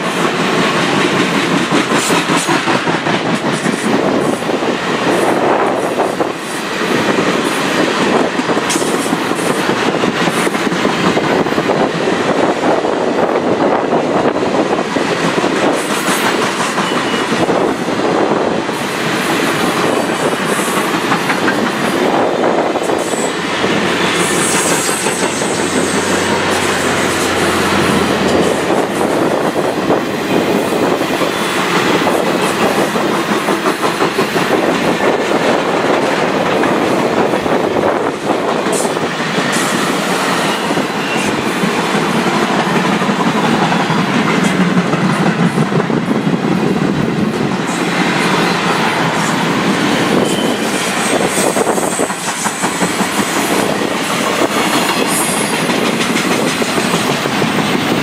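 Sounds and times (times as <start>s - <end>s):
train clickety-clack: 0.0s - 58.0s
train wheels rumbling on rails: 0.0s - 58.0s.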